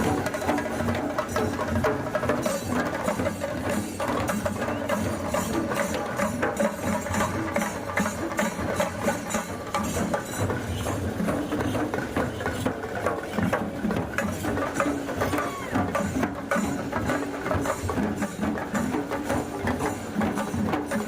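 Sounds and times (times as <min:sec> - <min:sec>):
many drums beating: 0:00.0 - 0:21.0.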